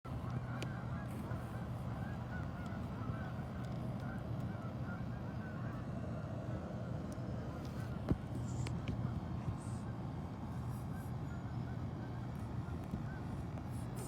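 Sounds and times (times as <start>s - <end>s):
geese honking: 0.2s - 8.0s, 10.6s - 14.0s.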